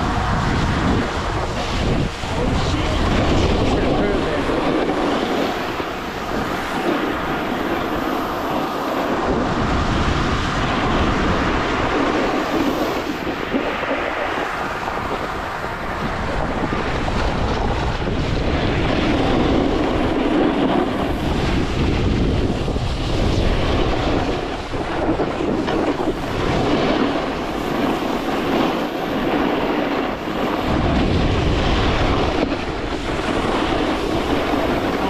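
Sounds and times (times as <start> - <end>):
snowboard scraping over snow: 0.0 - 35.0
wind on microphone: 0.0 - 35.0.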